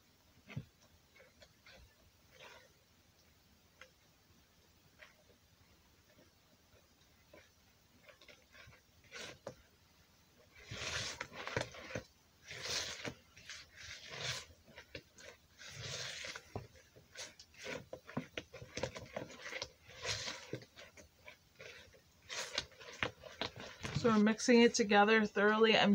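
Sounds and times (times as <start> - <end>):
utensil scraping and squelching batter: 0.3 - 24.7.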